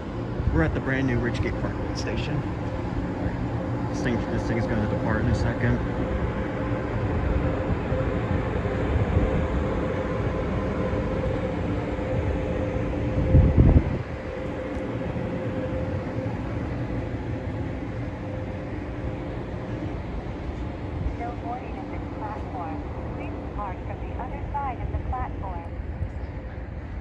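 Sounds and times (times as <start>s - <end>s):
loud low rumble: 0.0s - 27.0s
train electrical hum: 0.0s - 27.0s.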